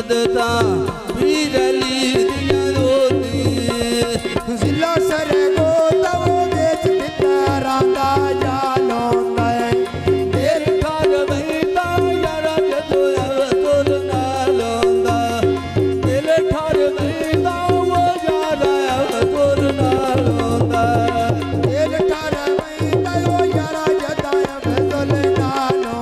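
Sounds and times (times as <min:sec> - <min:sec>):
harmonium melody: 0:00.0 - 0:26.0
tabla drumming: 0:00.0 - 0:26.0.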